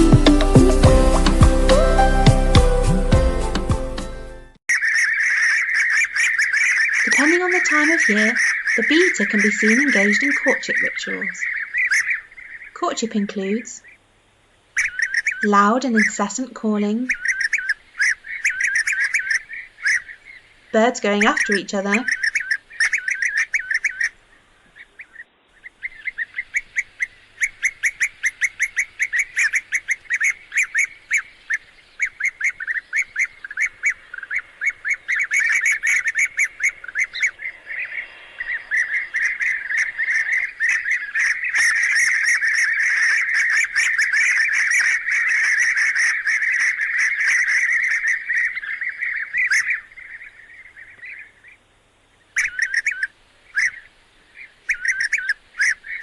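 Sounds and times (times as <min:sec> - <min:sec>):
birds chirping calls: 0:03.4 - 0:56.0.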